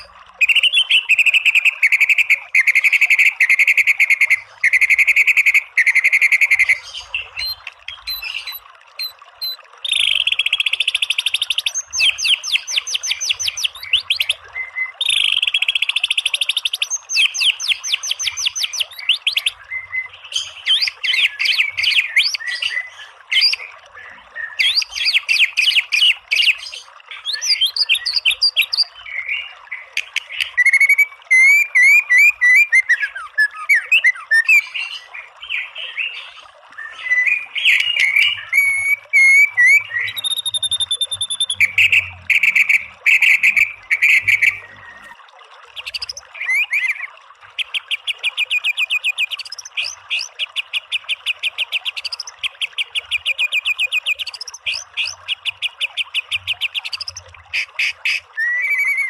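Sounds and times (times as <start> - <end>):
bird singing trills and whistles: 0.0 - 45.2, 45.8 - 59.0.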